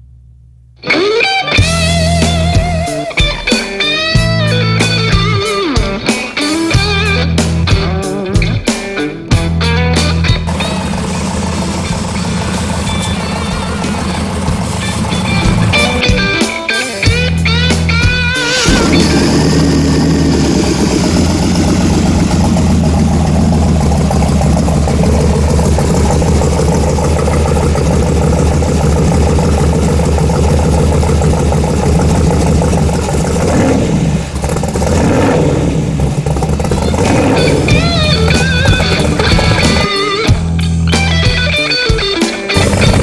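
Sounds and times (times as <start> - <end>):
vee-eight engine rumbling: 0.0 - 43.0
rock guitar music: 0.8 - 43.0.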